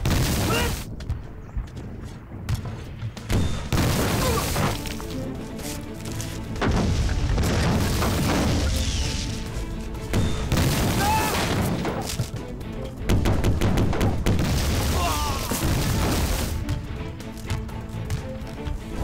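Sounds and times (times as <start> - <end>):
field guns firing: 0.0 - 5.3, 6.4 - 16.9
dramatic film score: 0.0 - 19.0.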